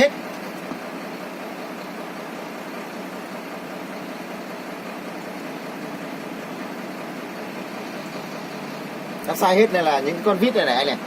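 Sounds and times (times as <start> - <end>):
machine humming and hissing: 0.2 - 9.4.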